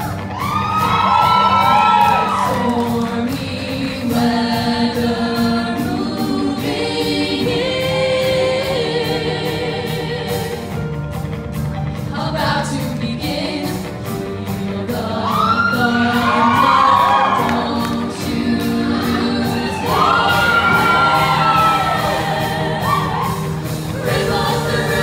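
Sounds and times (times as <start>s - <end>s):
female vocal ensemble singing: 1.7s - 10.9s, 12.1s - 25.0s.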